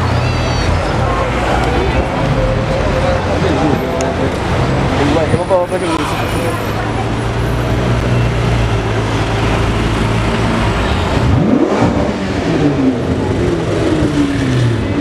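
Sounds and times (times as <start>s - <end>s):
car engine revving: 0.8s - 15.0s.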